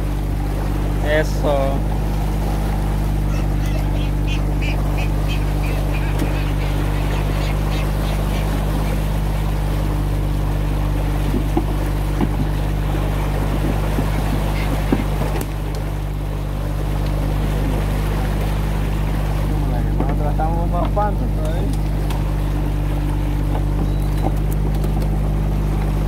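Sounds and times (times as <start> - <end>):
boat engine running: 0.0 - 26.0
water washing along hull: 0.0 - 26.0.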